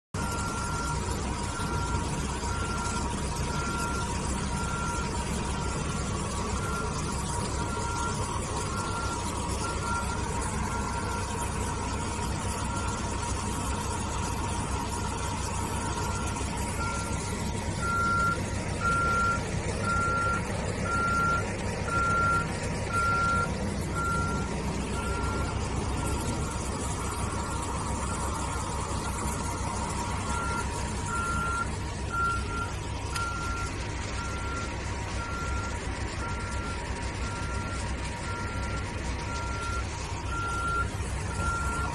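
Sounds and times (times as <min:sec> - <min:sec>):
wire saw machine whine: 0:00.2 - 0:35.6
reversing alarm beeping: 0:00.2 - 0:41.9.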